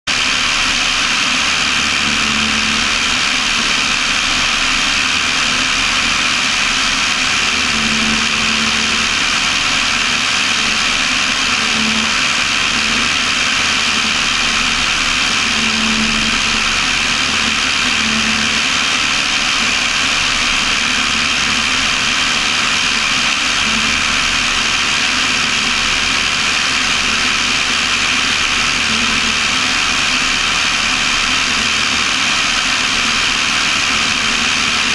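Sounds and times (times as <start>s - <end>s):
propeller aircraft engine drone: 0.1s - 34.9s.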